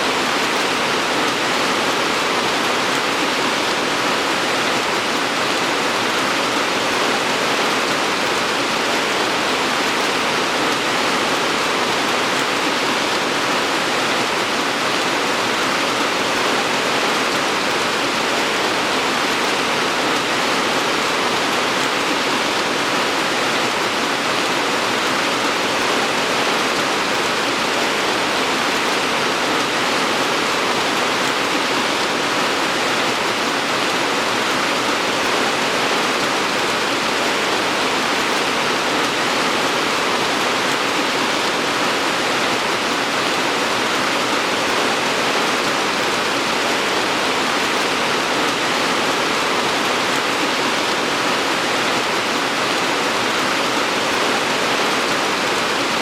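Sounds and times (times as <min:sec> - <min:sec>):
dense rain hiss: 0:00.0 - 0:56.0.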